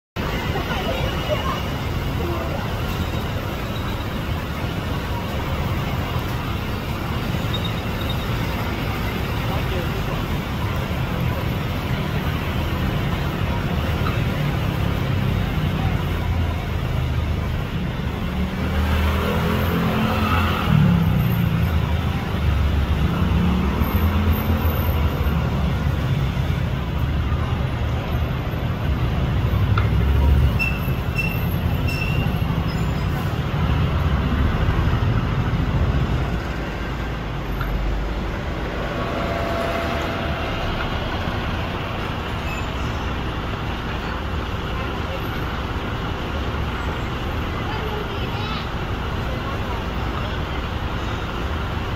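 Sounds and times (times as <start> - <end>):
road traffic rumble: 0.2 - 51.9.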